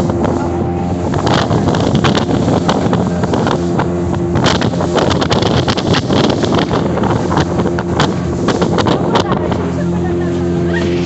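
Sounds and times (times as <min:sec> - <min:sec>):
speedboat engine running: 0:00.0 - 0:11.0
water noise: 0:00.0 - 0:11.0
wind buffeting microphone: 0:00.0 - 0:11.0.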